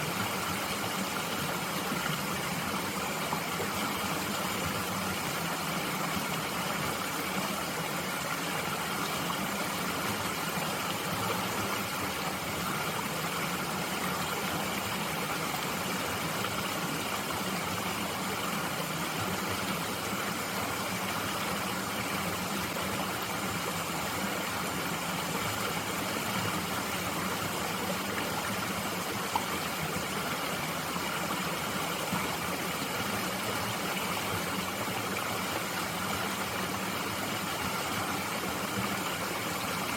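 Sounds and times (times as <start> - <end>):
mountain stream flowing: 0.0 - 39.9.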